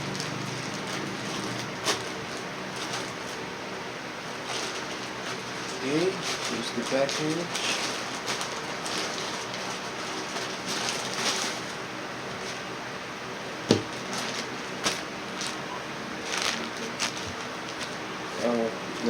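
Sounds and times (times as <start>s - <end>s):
plastic package rustling: 0.1s - 3.4s, 4.3s - 12.8s, 13.7s - 19.0s.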